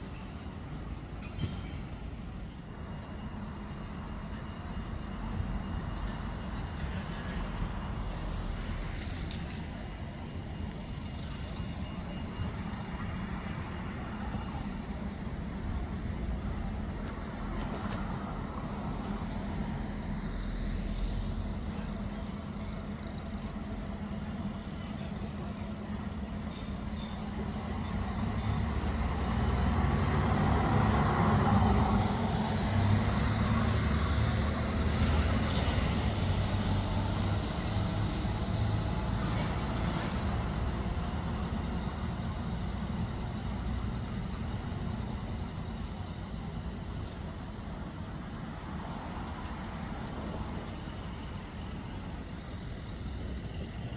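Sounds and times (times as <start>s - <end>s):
road traffic rumble: 0.0s - 53.9s.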